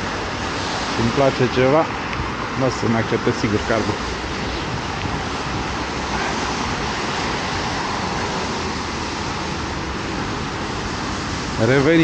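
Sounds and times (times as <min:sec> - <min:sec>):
car tyres hissing on wet road: 0:00.0 - 0:12.0.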